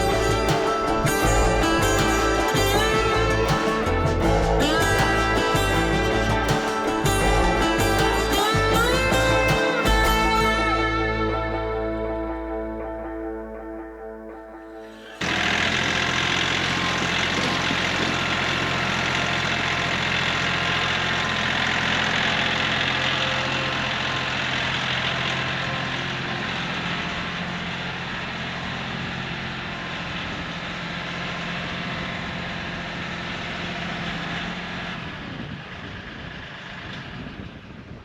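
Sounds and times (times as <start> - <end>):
tractor engine running: 0.0 - 13.2, 14.7 - 38.0.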